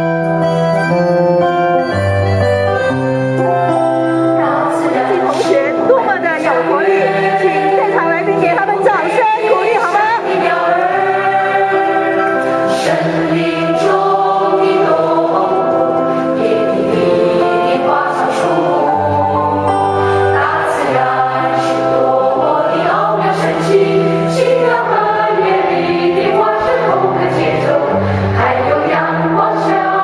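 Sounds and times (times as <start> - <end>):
choir singing: 4.2 - 30.0.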